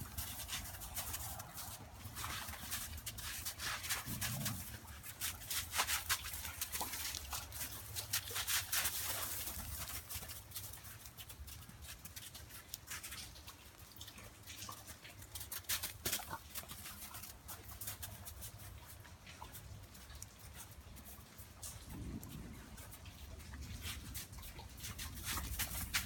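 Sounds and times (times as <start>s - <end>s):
dog paws crunching through hail: 0.0s - 26.0s.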